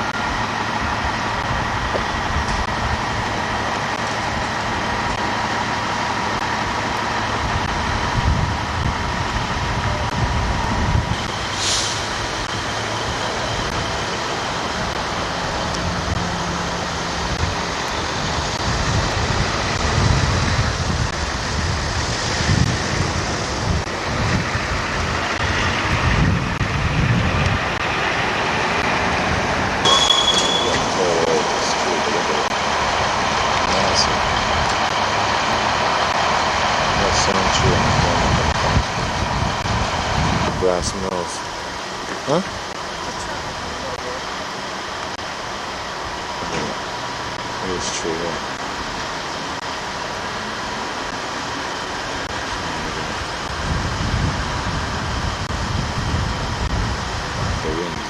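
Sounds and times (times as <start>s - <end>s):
wind buffeting microphone: 0.0s - 29.9s, 30.6s - 41.8s, 52.0s - 58.0s
car road and engine noise: 0.0s - 58.0s
thin steady whine: 0.0s - 58.0s.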